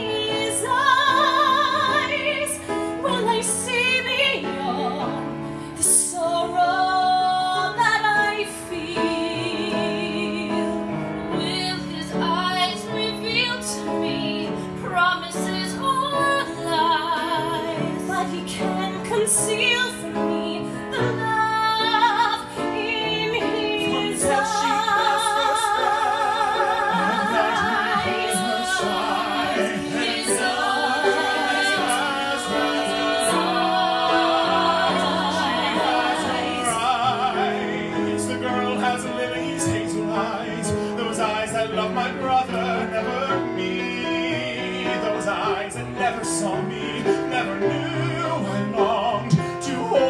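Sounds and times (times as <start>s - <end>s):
vocal quartet singing in harmony: 0.0s - 50.0s.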